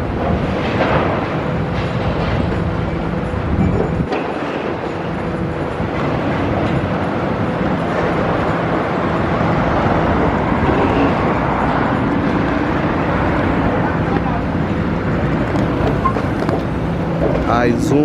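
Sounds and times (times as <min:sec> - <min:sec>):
loud mechanical rumble: 0:00.0 - 0:18.0.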